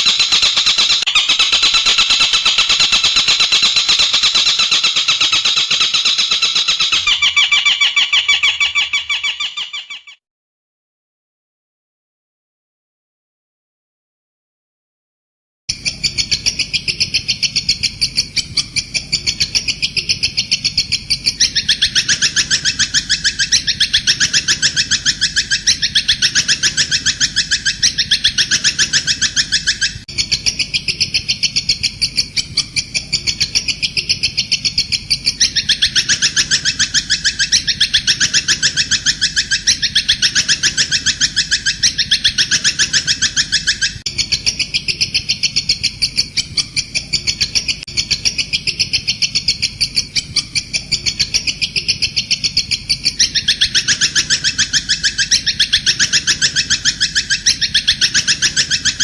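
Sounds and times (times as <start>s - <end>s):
bird chattering trill: 0.0s - 10.2s, 15.7s - 59.0s.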